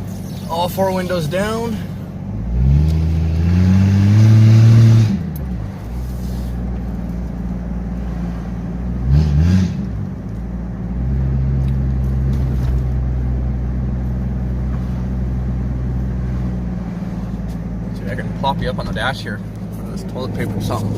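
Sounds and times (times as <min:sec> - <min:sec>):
car engine revving and cruising: 0:00.0 - 0:20.9.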